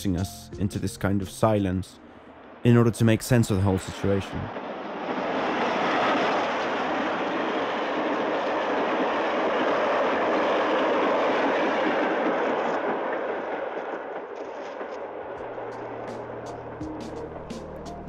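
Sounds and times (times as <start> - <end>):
train passing rumble: 0.0 - 18.0.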